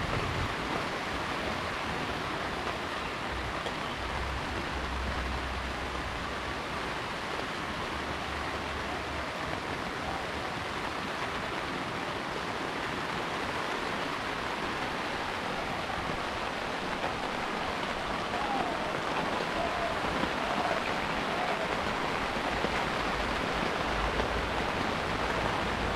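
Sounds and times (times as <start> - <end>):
heavy rain hissing: 0.0 - 25.9.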